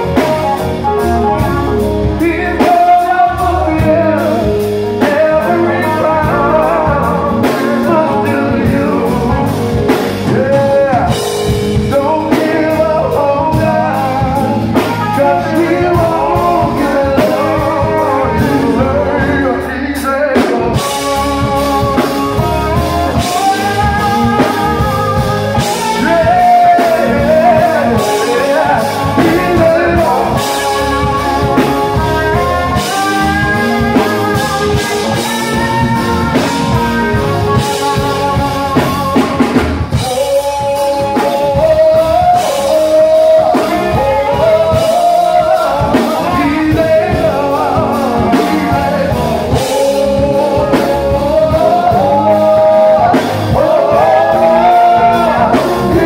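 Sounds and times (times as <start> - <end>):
bass: 0.0 - 56.0
drum kit: 0.0 - 56.0
pedal steel guitar: 0.0 - 56.0.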